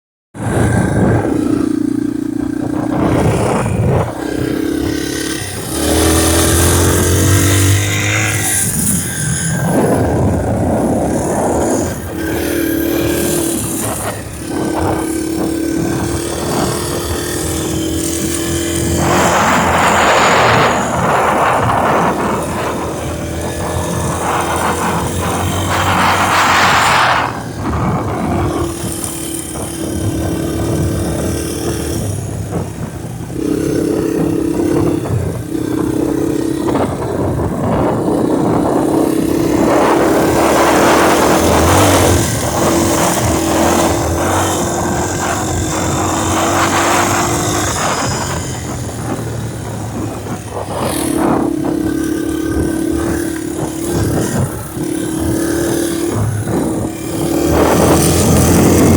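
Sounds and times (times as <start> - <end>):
wind buffeting microphone: 0.3 - 58.9
vehicle drone: 0.4 - 58.9.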